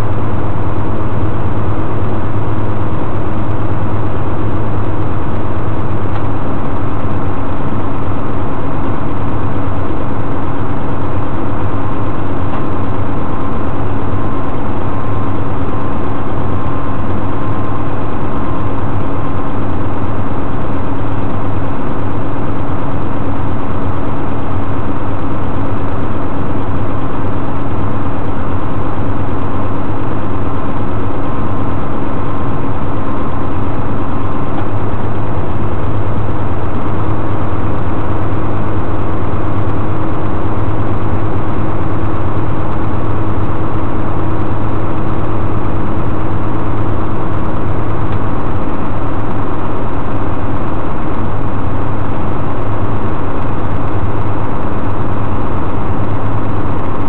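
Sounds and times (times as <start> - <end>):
faint steady whine: 0.0 - 57.0.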